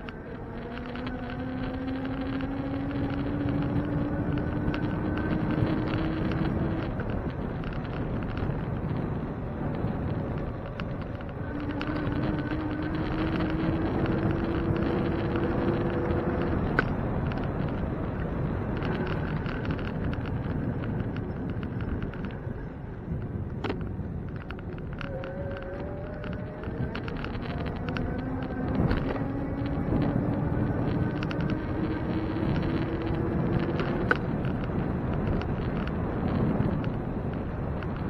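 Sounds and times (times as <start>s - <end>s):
road rumble: 0.0s - 38.0s
wind buffeting microphone: 0.0s - 38.0s.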